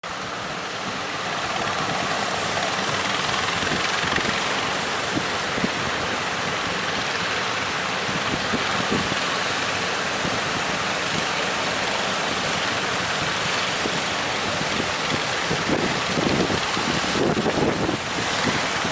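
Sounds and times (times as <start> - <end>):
sea surf: 0.0 - 18.9
strong wind: 0.1 - 18.9.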